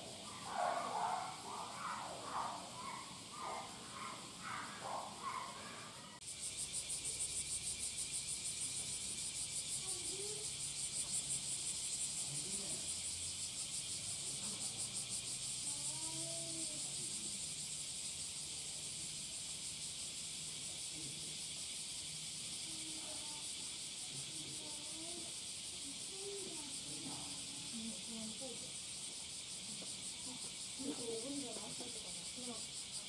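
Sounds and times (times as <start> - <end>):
cicadas chorus: 0.0 - 33.0.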